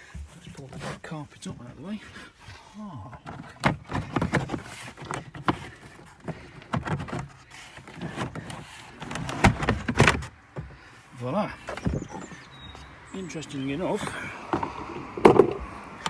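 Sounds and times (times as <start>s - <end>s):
carpet knocking scraping and rustling: 0.0s - 16.0s.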